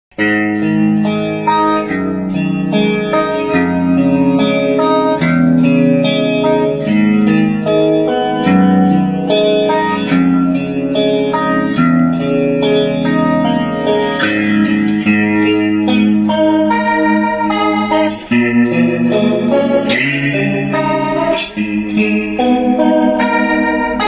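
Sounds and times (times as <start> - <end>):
electric guitar chords with rotary wobble: 0.1 - 24.0.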